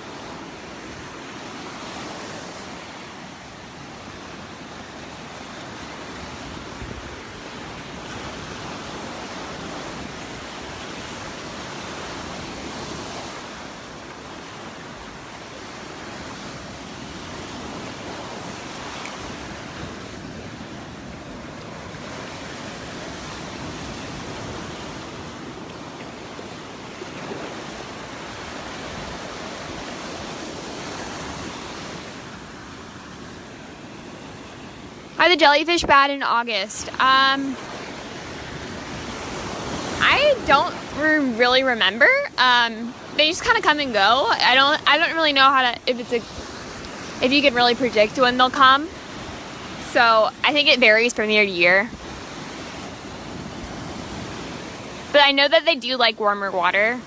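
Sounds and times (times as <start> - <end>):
surf breaking on beach: 0.0 - 57.0
wind on microphone: 5.0 - 32.6, 33.4 - 55.5.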